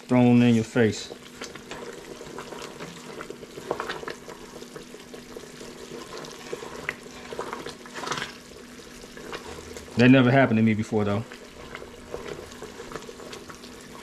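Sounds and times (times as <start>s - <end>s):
syrup boiling and popping: 0.0s - 14.0s
spatula scraping pot: 1.3s - 10.2s, 11.3s - 14.0s.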